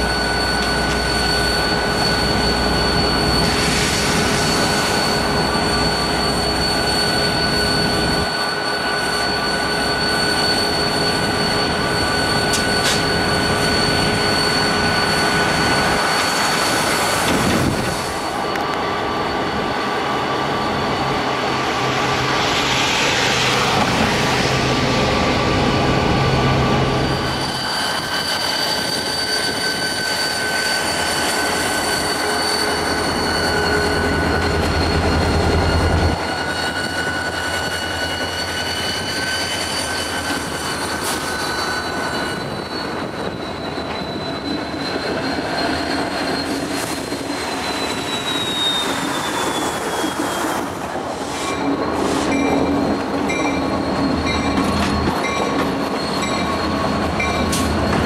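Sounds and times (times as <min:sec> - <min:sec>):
diesel locomotives passing: 0:00.0 - 0:58.0
train wheel squeal: 0:00.0 - 0:58.0.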